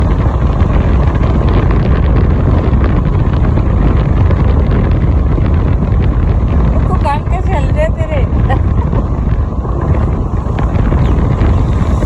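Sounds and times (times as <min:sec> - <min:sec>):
moving car rumble: 0:00.0 - 0:12.0
wind buffeting microphone: 0:00.0 - 0:12.0.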